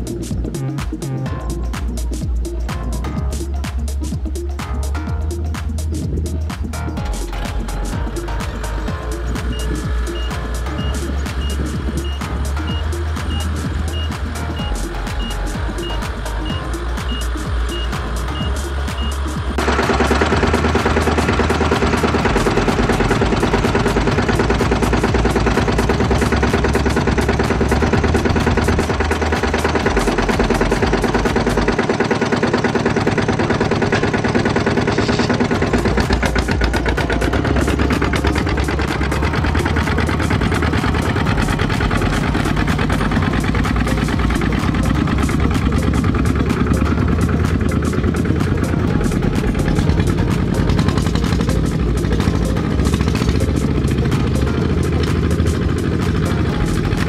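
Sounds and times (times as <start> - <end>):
diesel engines knocking: 0.0 - 57.0.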